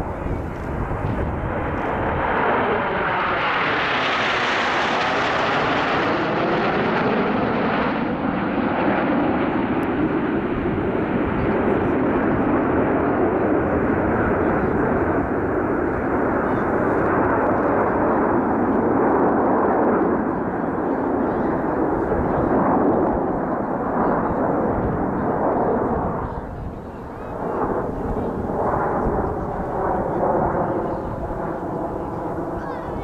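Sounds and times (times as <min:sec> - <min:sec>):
jet roar overhead: 0:00.0 - 0:33.0.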